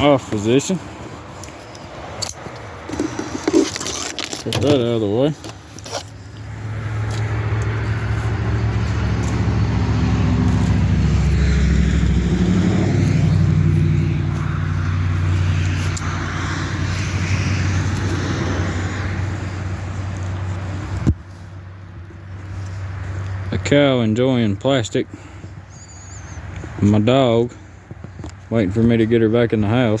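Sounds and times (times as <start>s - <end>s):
vehicle engine humming: 0.3s - 24.7s.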